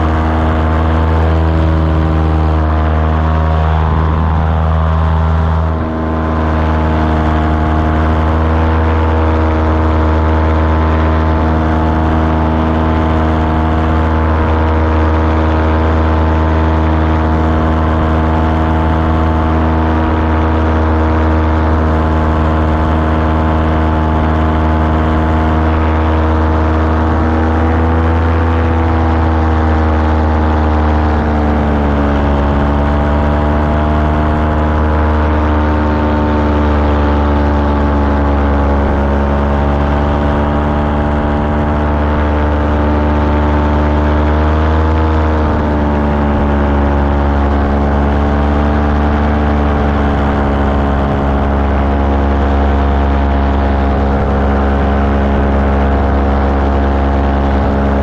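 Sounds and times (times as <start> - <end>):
propeller aircraft engine: 0.0 - 58.0.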